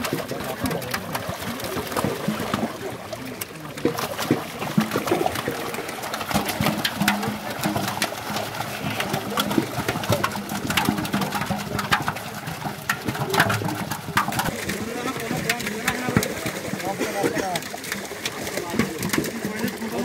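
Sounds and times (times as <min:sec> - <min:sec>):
fish thrashing in water: 0:00.0 - 0:20.0
water splashing and sloshing: 0:00.0 - 0:20.0.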